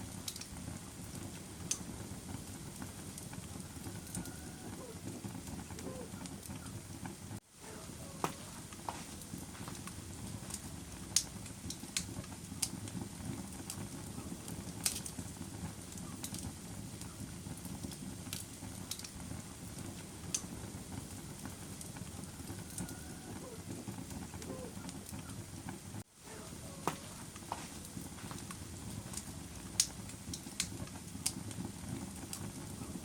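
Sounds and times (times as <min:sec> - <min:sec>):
fire crackling and popping: 0:00.0 - 0:33.0
fire flame rushing: 0:00.0 - 0:33.0.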